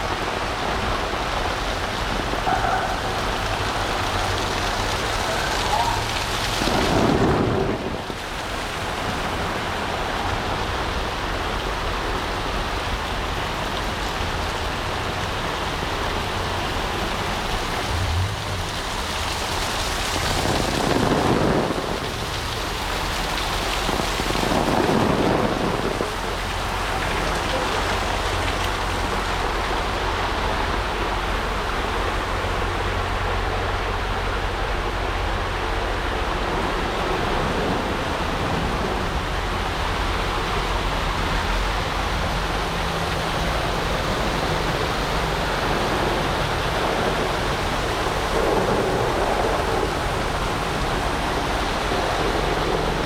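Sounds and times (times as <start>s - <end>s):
heavy rain pouring: 0.0s - 53.0s.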